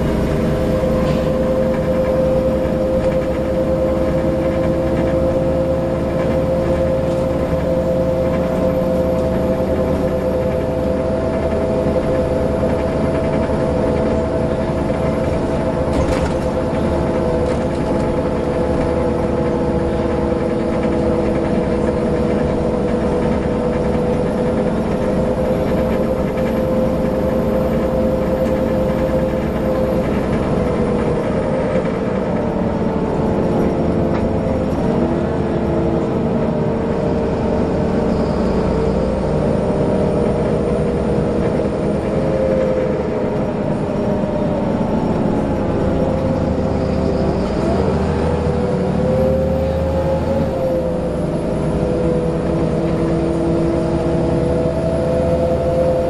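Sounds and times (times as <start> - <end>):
bus engine and drivetrain whine: 0.0 - 56.0
road rumble: 0.0 - 56.0.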